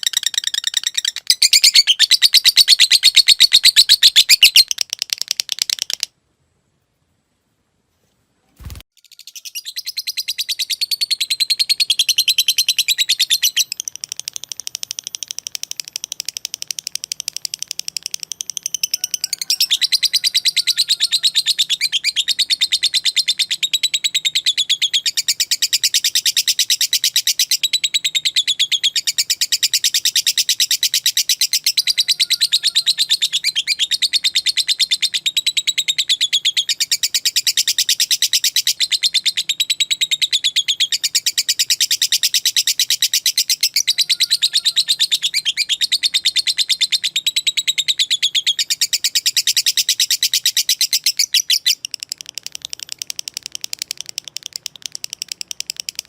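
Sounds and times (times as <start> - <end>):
lovebird chattering trill: 0.0 - 6.1, 9.0 - 56.0.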